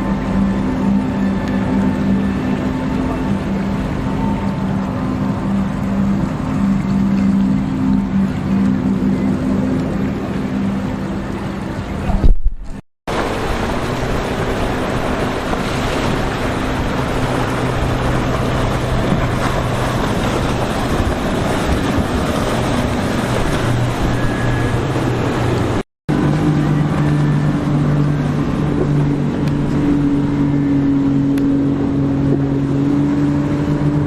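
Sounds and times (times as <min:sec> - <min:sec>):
motorboat engine drone: 0:00.0 - 0:34.0
water rushing: 0:00.0 - 0:34.0
wind: 0:00.0 - 0:34.0.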